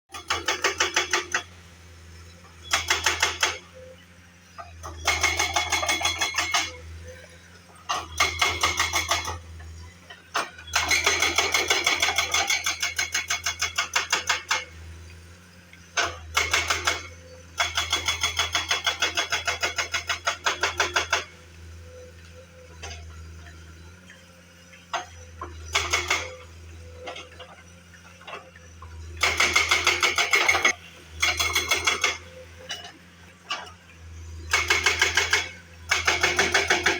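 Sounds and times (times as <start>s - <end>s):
road-repair machine hammering: 0.1s - 1.6s, 2.6s - 4.0s, 4.6s - 7.2s, 7.8s - 14.9s, 15.9s - 22.0s, 24.9s - 33.8s, 34.4s - 36.9s.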